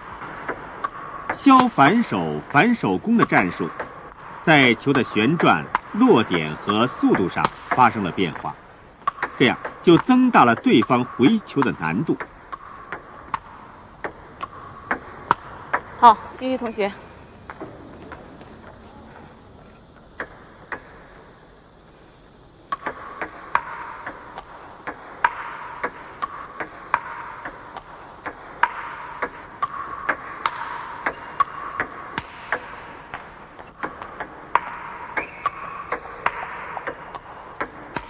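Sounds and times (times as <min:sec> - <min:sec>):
table tennis ball clicking: 0:00.0 - 0:18.8, 0:20.0 - 0:21.4, 0:22.6 - 0:38.0
steady background noise: 0:00.0 - 0:38.0.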